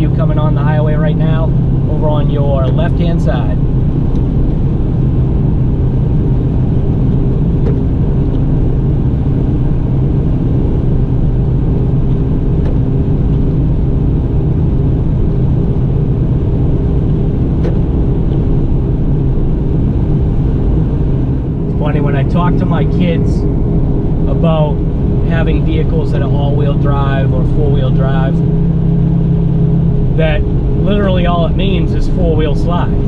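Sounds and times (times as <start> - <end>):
truck engine and road drone: 0.0 - 33.0.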